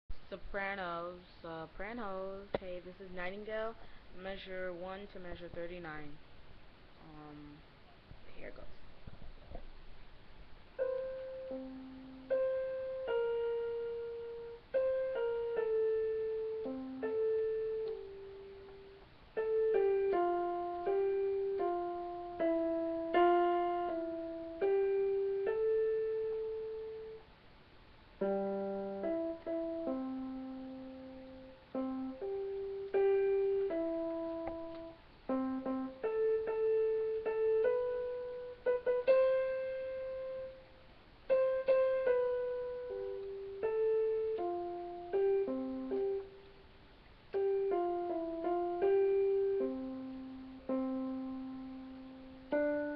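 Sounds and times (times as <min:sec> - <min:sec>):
slow piano melody: 0:10.4 - 0:52.9.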